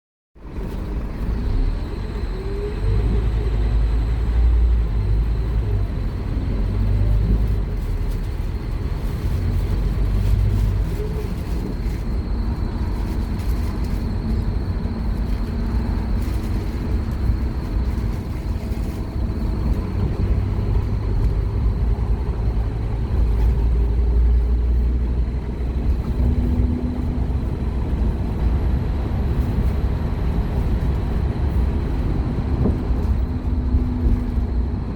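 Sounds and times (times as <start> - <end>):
bus diesel engine rumbling: 0.4 - 34.9.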